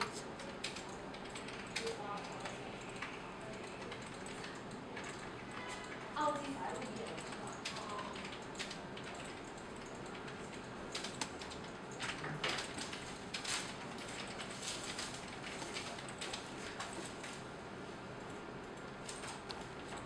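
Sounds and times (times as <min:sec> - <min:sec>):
computer mouse clicking: 0:00.0 - 0:17.2.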